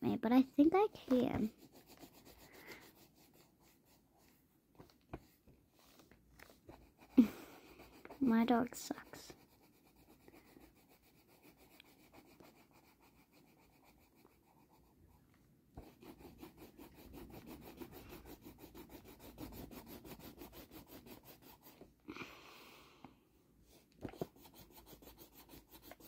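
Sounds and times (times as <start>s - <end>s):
pencil rubbing on paper: 0.1s - 21.9s, 23.7s - 26.0s.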